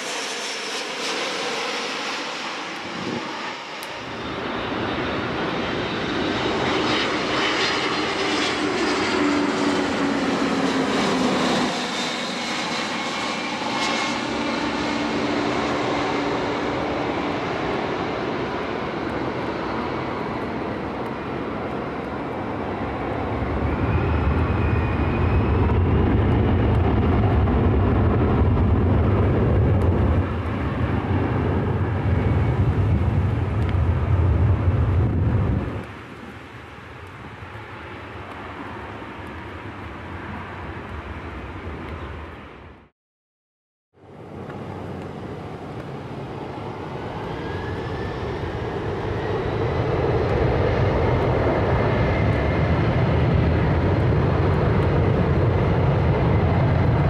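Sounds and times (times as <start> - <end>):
jet engines low rumble on approach: 0.0 - 42.9, 43.9 - 57.0
jet engines whining at takeoff: 0.0 - 42.9, 44.0 - 57.0.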